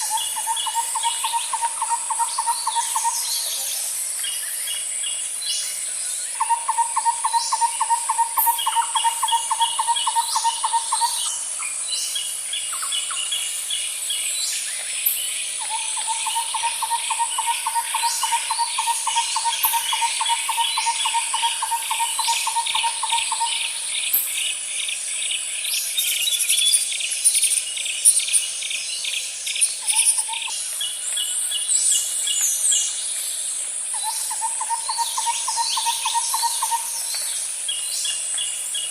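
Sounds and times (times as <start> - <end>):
high-pitched insect whine: 0.0 - 38.9
pulsed cricket chirping: 0.0 - 38.9.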